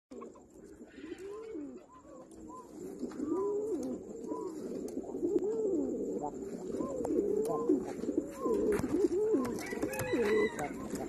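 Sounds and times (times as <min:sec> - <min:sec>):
pigeons cooing: 0:00.1 - 0:11.0.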